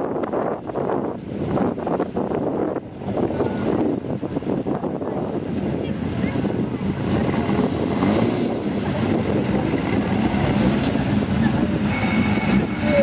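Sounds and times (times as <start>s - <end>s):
car engines rumbling low: 0.0s - 13.0s.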